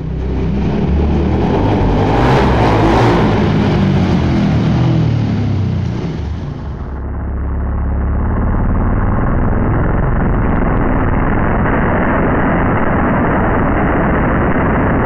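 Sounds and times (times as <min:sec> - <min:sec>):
race car engine revving: 0:00.0 - 0:13.3.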